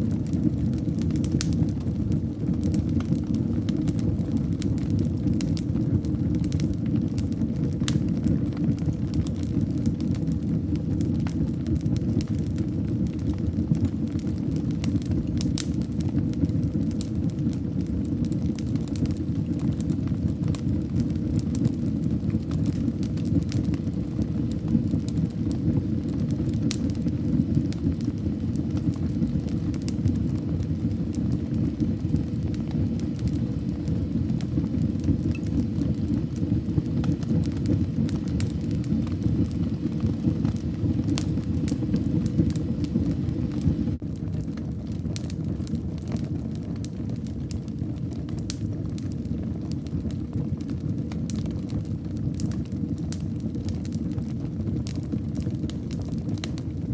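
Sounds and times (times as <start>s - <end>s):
fire crackling and popping: 0.0s - 56.9s
low rumble of flames: 0.0s - 56.9s.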